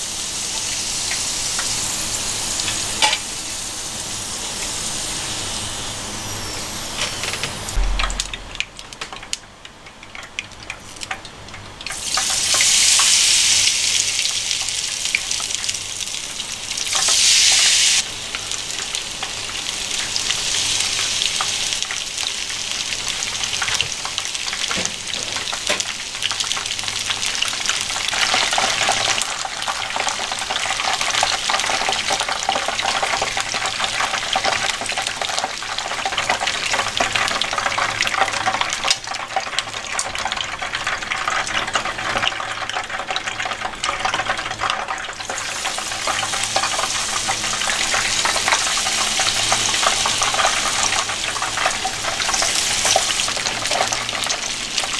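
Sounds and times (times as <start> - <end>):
chicken deep-frying in hot oil: 0.0 - 54.9.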